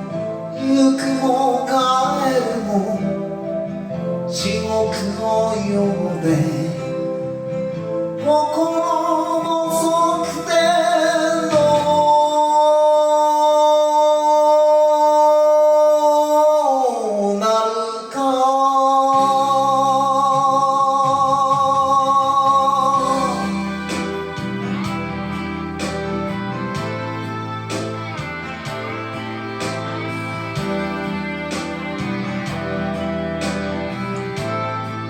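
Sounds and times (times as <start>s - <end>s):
guitar accompaniment: 0.0s - 35.0s
person singing with vibrato: 0.0s - 35.0s.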